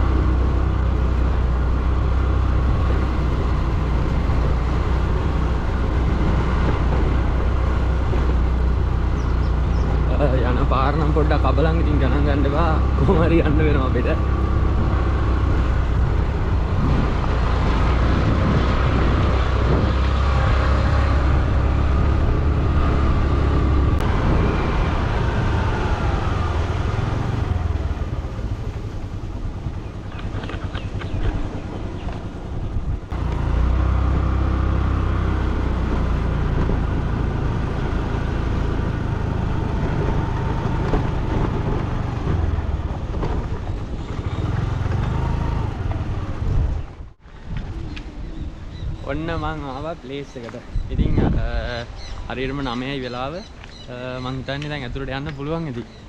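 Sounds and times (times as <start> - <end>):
motorcycle engine running: 0.0 - 49.1.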